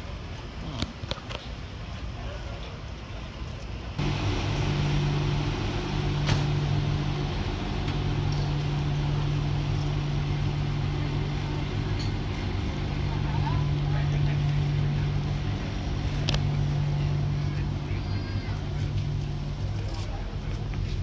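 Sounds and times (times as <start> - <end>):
boat machinery humming: 3.8 - 21.0.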